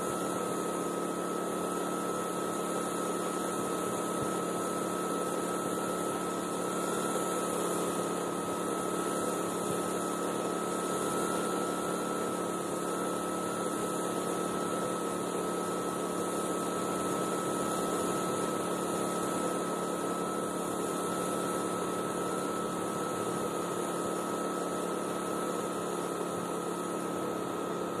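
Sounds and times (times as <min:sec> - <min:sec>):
machine humming with high whine: 0:00.0 - 0:28.0.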